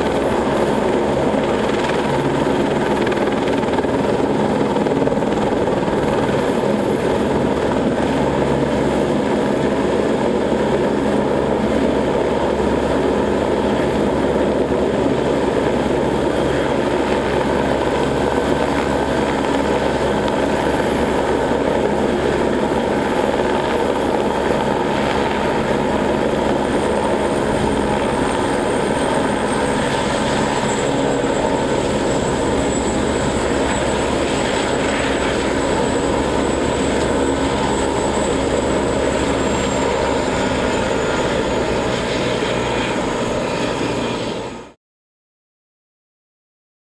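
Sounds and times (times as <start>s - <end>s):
helicopter rotor and engine din: 0.0s - 44.8s
high turbine whine: 0.0s - 44.8s.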